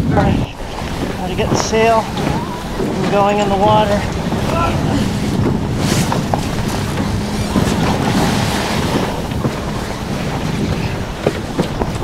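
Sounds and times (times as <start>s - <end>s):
sailcloth rustling and crinkling: 0.0s - 12.0s
wind buffeting microphone: 0.0s - 12.0s.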